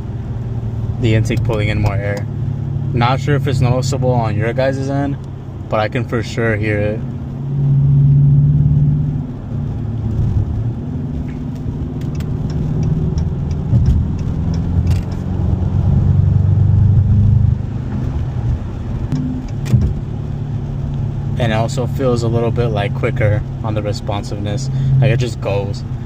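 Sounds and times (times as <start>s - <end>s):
car engine running while driving: 0.0s - 26.0s
engine intake pulling in air: 0.0s - 26.0s.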